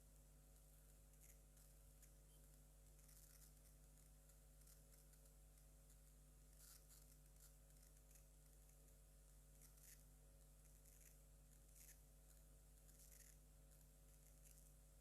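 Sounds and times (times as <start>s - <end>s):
faint steady hum and hiss: 0.0s - 15.0s.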